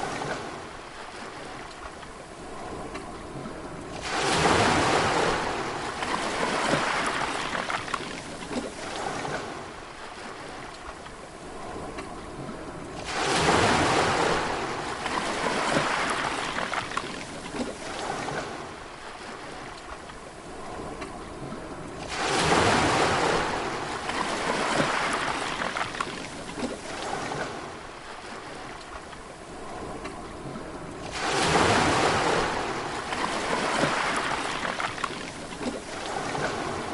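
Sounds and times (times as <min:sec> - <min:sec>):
sea waves breaking: 0:00.0 - 0:36.9.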